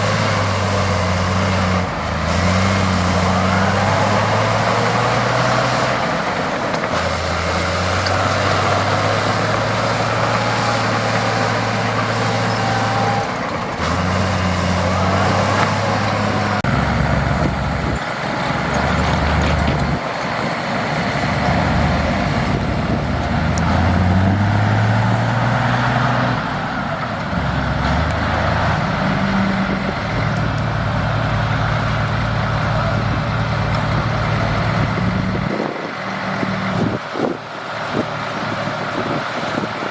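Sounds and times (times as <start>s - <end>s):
diesel machinery engine revving: 0.0s - 39.9s.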